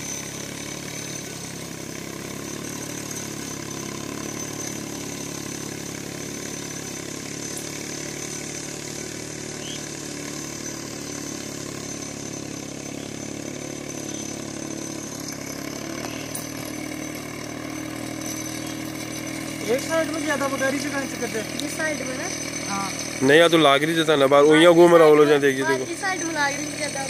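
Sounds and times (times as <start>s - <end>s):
sprayer high whine: 0.0s - 27.0s
tractor engine drone: 0.0s - 27.0s.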